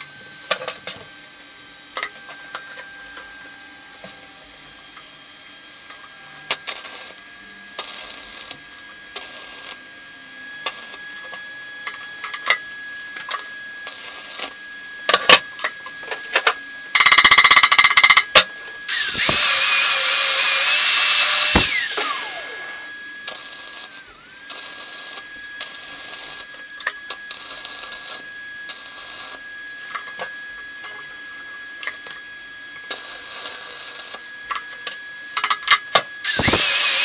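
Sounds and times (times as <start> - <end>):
angle grinder grinding metal: 5.8 - 37.0.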